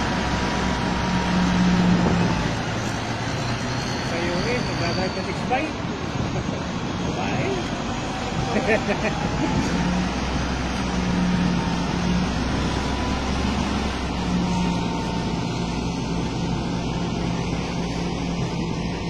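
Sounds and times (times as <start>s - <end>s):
heavy vehicle engines humming: 0.0s - 19.0s.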